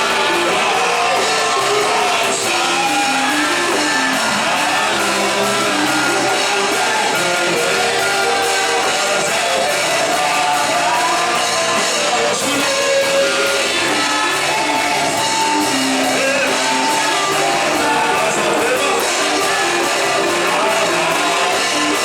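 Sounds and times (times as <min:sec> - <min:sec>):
band accompaniment with steady beat: 0:00.0 - 0:22.0
voices singing: 0:00.0 - 0:22.0.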